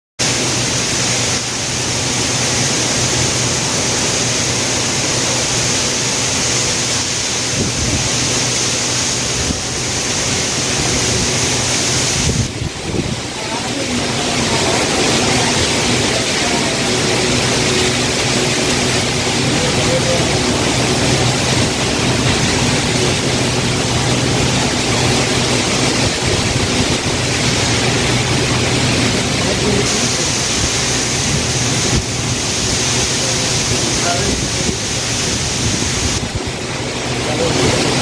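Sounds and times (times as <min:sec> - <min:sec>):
heavy rain falling: 0:00.2 - 0:38.0.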